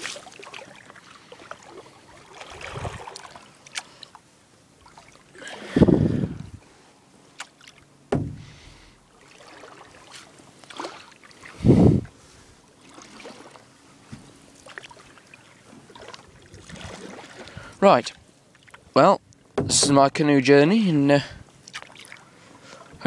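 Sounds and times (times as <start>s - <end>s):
paddle water swishing: 0.0s - 20.1s, 21.4s - 23.0s.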